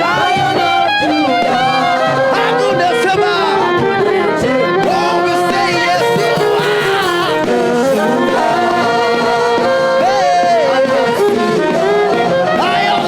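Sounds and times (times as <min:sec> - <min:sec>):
band playing: 0:00.0 - 0:13.0
choir singing: 0:00.0 - 0:13.0.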